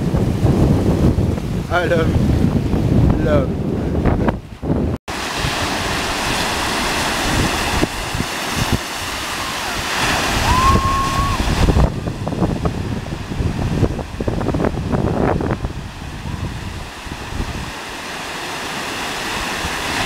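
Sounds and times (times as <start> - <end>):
wind buffeting microphone: 0.0 - 18.1
ocean surf breaking: 0.0 - 20.0.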